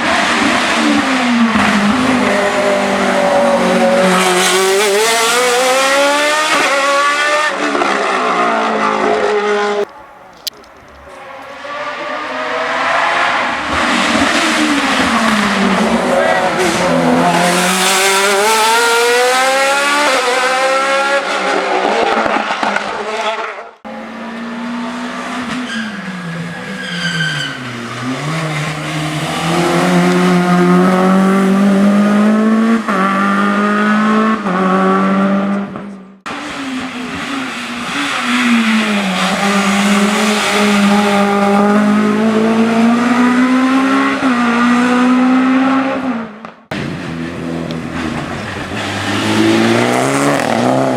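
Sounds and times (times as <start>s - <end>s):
high car whine: 0.0s - 50.9s
race car engines revving: 0.0s - 50.9s.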